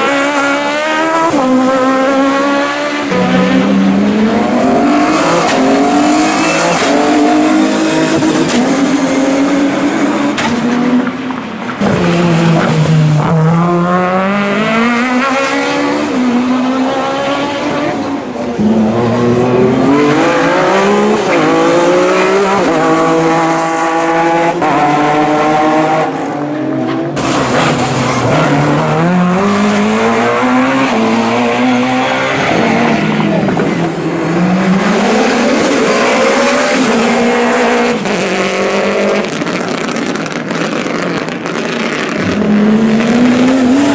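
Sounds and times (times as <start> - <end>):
racing car engines at full throttle: 0.0 - 43.9.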